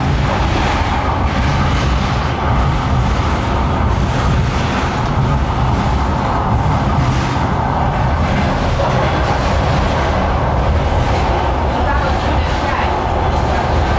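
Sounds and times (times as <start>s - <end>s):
passenger train rumbling: 0.0s - 13.9s.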